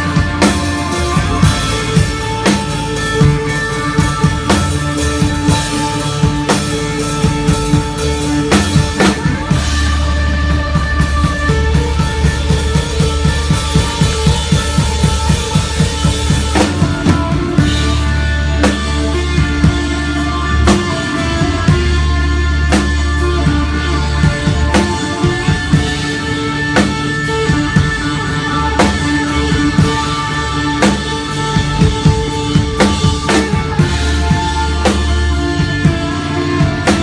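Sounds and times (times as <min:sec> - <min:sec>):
rock band playing live: 0:00.0 - 0:37.0.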